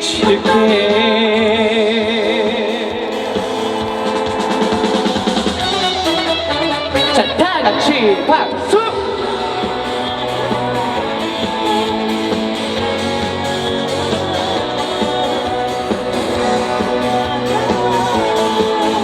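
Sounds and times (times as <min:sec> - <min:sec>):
instrumental band music with guitar: 0:00.0 - 0:19.0.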